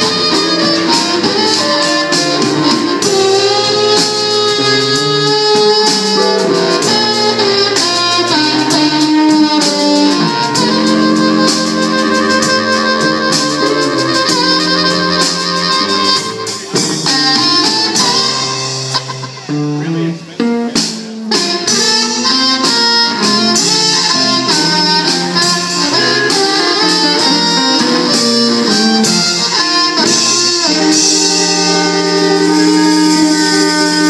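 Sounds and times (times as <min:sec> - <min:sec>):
amplified harmonica: 0:00.0 - 0:34.0
drum kit: 0:00.0 - 0:34.0
electric blues band playing: 0:00.0 - 0:34.0
electric guitar notes: 0:00.0 - 0:34.0.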